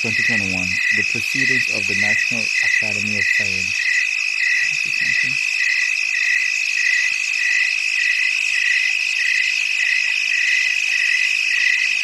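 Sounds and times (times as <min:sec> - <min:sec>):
high chirring hiss: 0:00.0 - 0:11.2
repeating frog call: 0:00.0 - 0:12.0.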